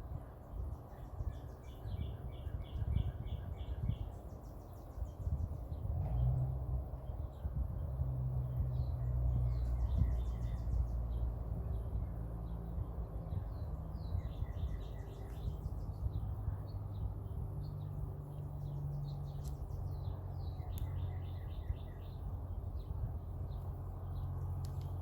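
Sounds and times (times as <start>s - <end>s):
small songbirds chirping: 0.0s - 25.0s.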